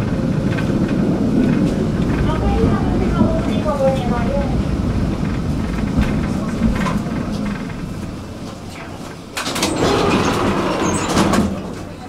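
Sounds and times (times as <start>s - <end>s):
tram doors opening with clicks: 0.0s - 12.0s
tram rumbling: 0.0s - 12.0s.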